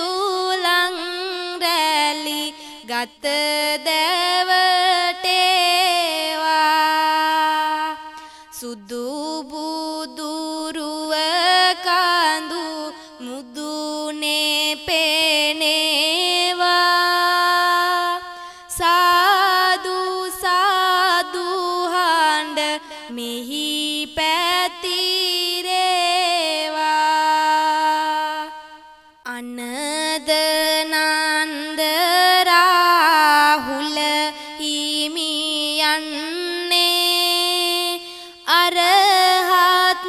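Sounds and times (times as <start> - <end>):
person chanting verse: 0.0 - 40.0.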